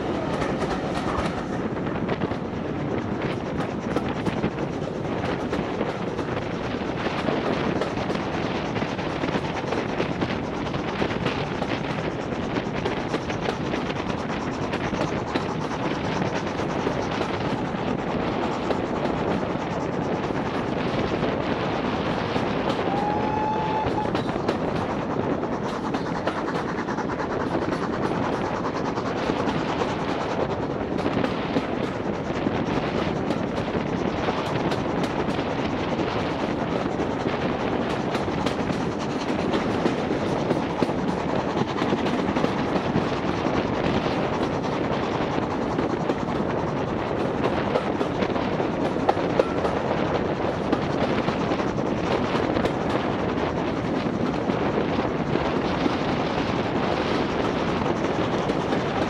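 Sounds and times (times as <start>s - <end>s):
train wheels rattling on rails: 0.0s - 59.0s
wind noise on microphone: 0.0s - 59.0s.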